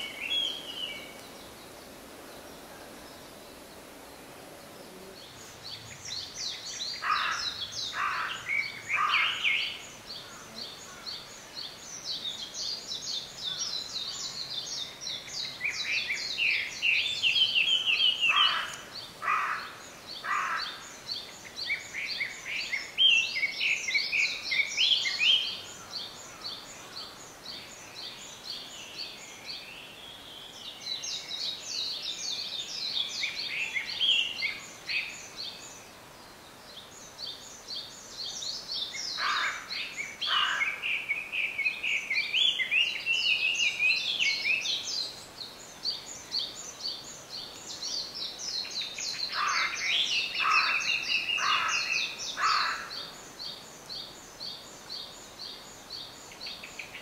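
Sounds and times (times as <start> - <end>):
bird song phrases: 0.0 - 57.0.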